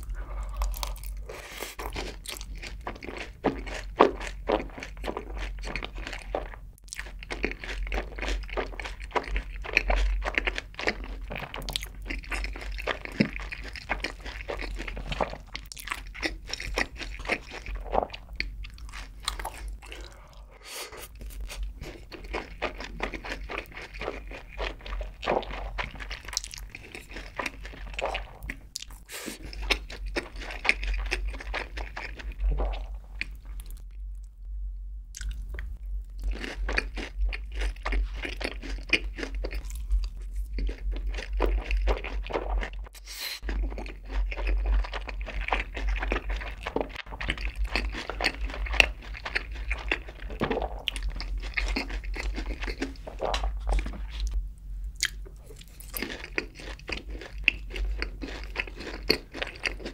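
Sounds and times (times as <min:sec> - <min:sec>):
crunching fried chicken: 0:00.0 - 0:20.3, 0:21.1 - 0:33.8, 0:36.2 - 0:54.4, 0:55.0 - 0:59.9.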